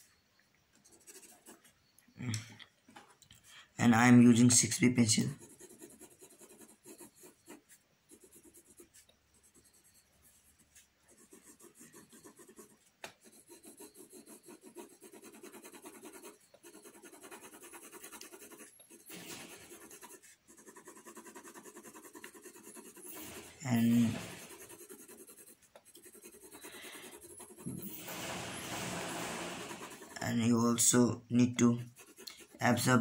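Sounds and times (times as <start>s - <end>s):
pencil scratching on paper: 0.8s - 1.7s, 4.3s - 33.0s.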